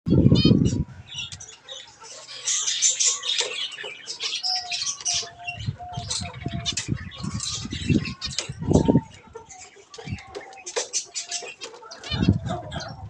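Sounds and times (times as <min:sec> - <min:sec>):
finches chirping: 0:00.1 - 0:13.0.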